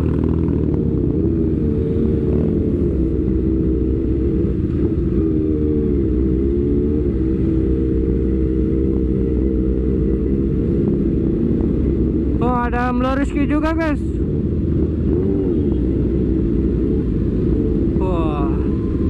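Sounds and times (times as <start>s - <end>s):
motorcycle engine drone: 0.0s - 19.0s.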